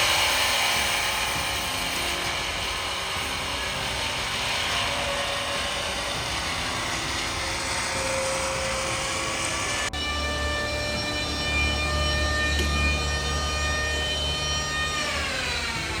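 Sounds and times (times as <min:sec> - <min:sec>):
machine humming and whining: 0:00.0 - 0:16.0
steady machine noise: 0:00.0 - 0:16.0.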